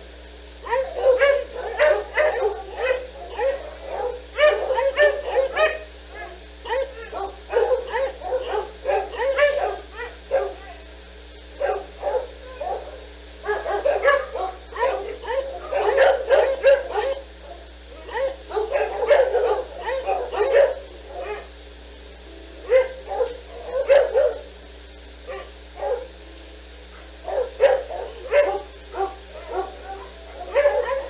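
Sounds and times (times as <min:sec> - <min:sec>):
dogs barking and yipping: 0:00.6 - 0:10.8, 0:11.6 - 0:21.6, 0:22.6 - 0:24.6, 0:25.2 - 0:26.2, 0:26.8 - 0:31.0.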